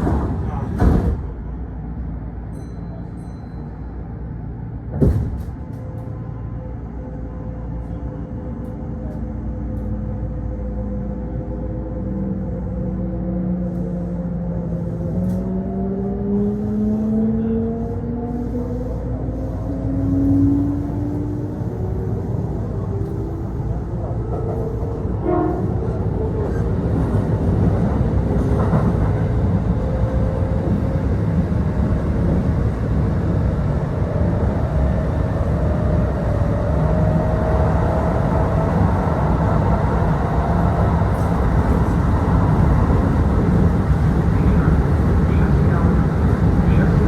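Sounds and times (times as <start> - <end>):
wheels rumbling on rails: 0.0 - 47.0.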